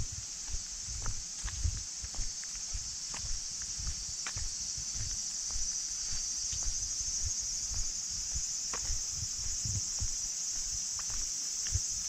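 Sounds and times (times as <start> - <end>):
footsteps on paved path: 0.0 - 12.0
high-pitched insect chorus: 0.0 - 12.0.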